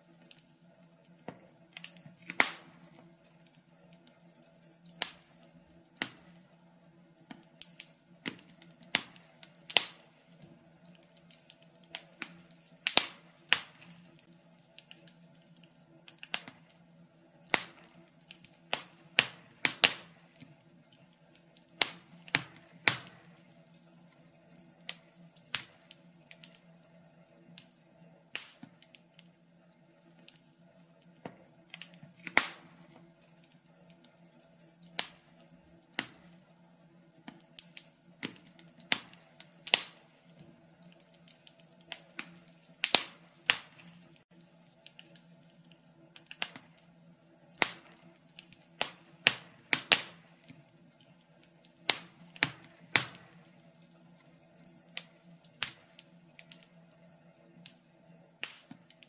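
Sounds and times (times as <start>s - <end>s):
faint steady hum: 0.0s - 59.0s
fire crackling and popping: 0.0s - 59.0s.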